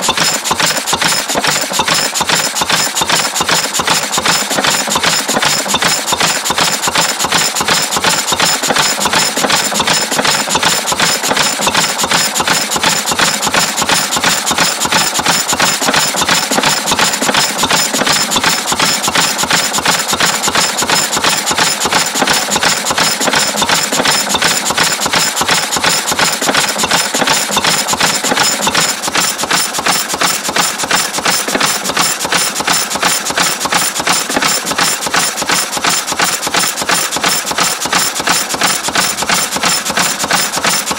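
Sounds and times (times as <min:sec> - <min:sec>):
stationary engine clattering: 0:00.0 - 0:40.9.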